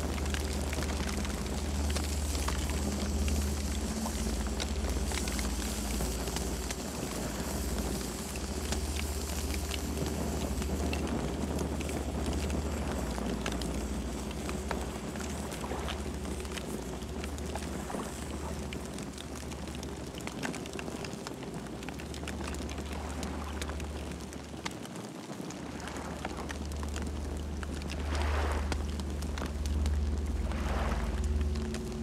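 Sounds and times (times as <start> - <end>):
campfire crackling and popping: 0.0 - 32.0
low rumble of flames: 0.0 - 32.0.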